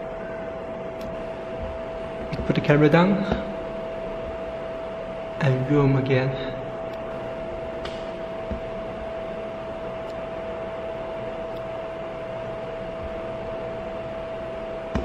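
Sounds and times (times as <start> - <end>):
cooling fan whirring with whine: 0.0 - 15.0.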